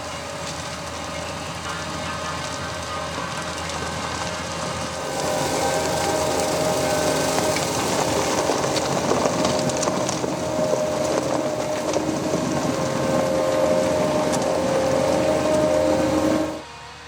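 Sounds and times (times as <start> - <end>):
harvester engine droning: 0.0 - 17.0.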